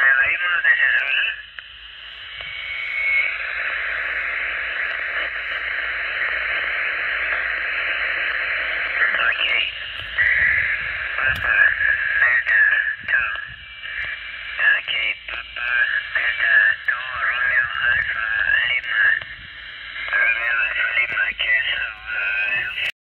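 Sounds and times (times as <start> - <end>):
radio band noise hiss: 0.0 - 23.0
weak radio voice: 0.0 - 23.0.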